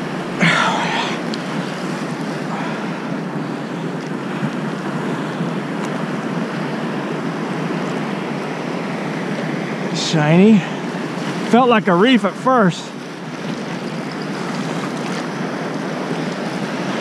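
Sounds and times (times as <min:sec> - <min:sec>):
ocean water sloshing: 0:00.0 - 0:17.0.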